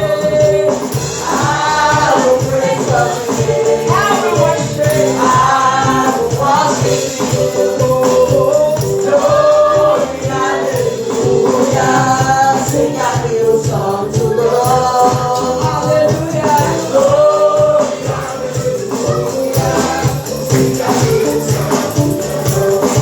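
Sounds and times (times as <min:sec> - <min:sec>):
gospel band and singing: 0:00.0 - 0:23.0
tambourine shaking: 0:00.0 - 0:23.0.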